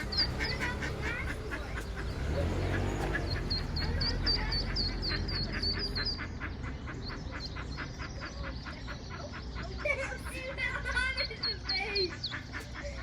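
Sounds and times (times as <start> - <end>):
ducklings peeping: 0.0 - 13.0
rapid duck calls: 0.0 - 13.0.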